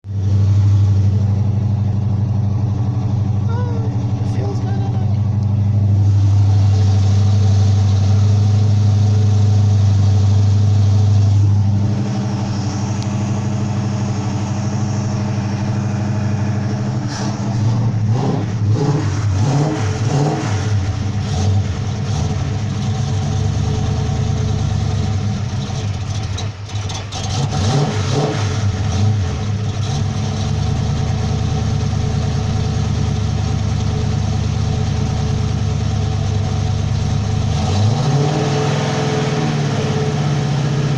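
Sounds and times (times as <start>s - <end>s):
engine idling and revving: 0.0s - 40.9s.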